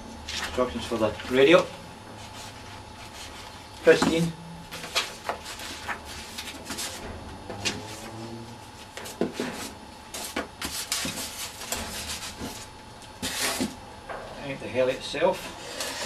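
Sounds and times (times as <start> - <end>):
cardboard and paper rustling: 0.3 - 13.8.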